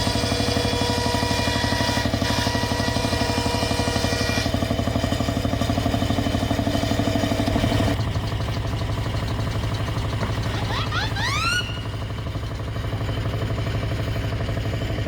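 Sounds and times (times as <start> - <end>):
engine running with fast beat: 0.0 - 15.0.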